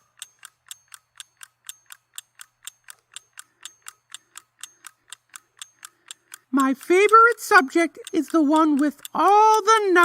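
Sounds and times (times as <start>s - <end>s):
clock ticking: 0.0s - 10.0s.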